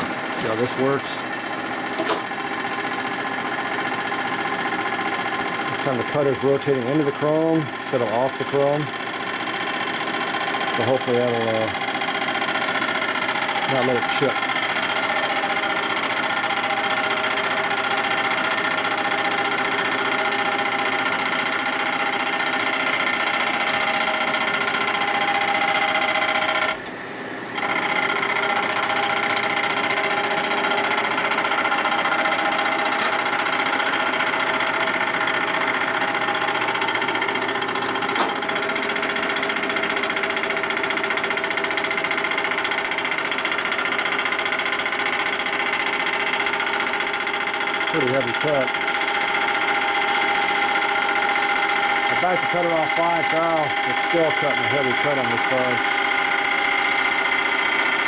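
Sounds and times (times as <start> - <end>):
milling cutter machining metal: 0.0 - 26.9, 27.5 - 58.0.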